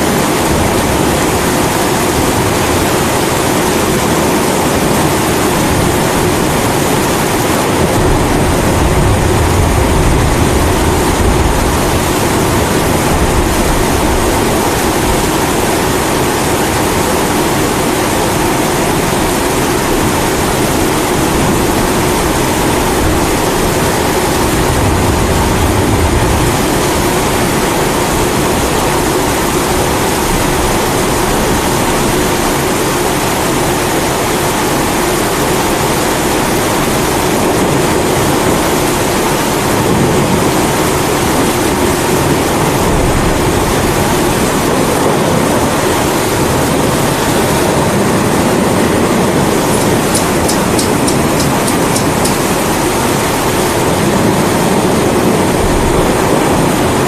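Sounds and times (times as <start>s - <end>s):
heavy rain: 0.0s - 57.0s
thunder rumble: 0.0s - 57.0s.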